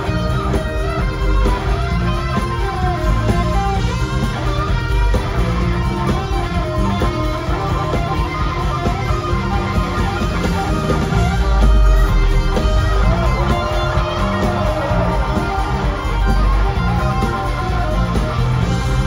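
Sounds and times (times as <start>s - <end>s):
electric guitar lead line: 0.0s - 19.0s
live rock band playing: 0.0s - 19.0s.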